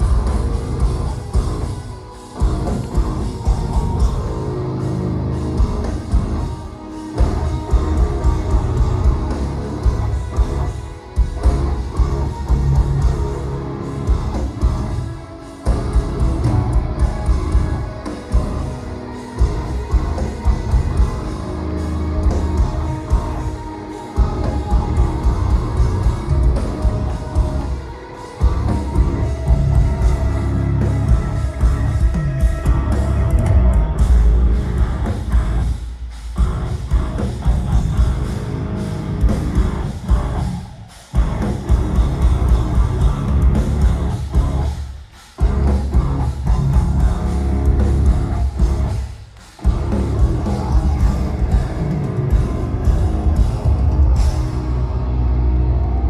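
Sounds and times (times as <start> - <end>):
heavy distorted guitars: 0.0 - 56.0
metal band playing live: 0.0 - 56.0.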